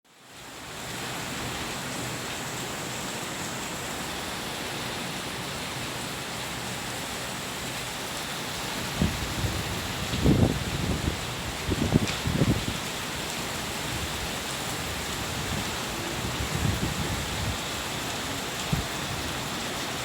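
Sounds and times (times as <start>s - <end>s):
steady rain falling: 0.1s - 20.0s.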